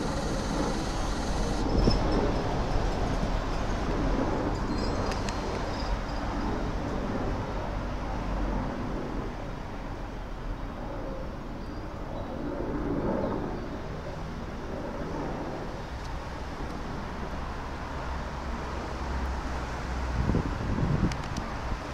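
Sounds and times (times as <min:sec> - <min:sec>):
helicopter rotor beat: 0:00.0 - 0:21.9
turbine engines droning: 0:00.0 - 0:21.9.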